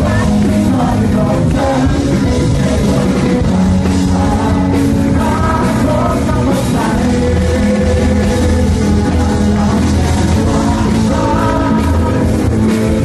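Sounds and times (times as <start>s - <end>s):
song with singing: 0.0s - 13.0s.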